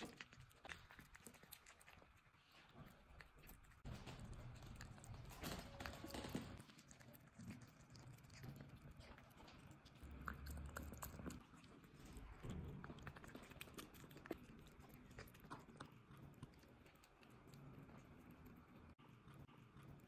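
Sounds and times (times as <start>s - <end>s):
kitten chewing and licking: 0.0s - 20.0s.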